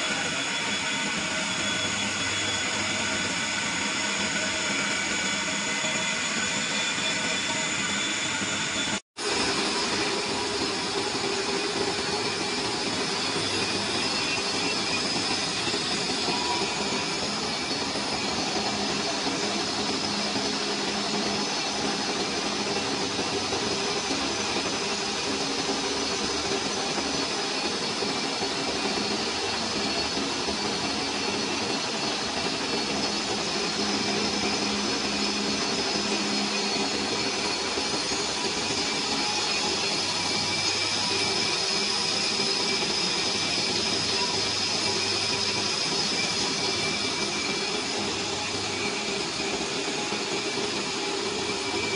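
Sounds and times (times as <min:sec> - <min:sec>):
metal lathe cutting whir: 0:00.0 - 0:51.9.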